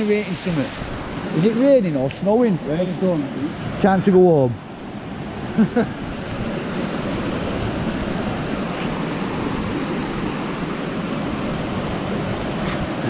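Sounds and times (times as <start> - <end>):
rain and running water: 0.0 - 13.0.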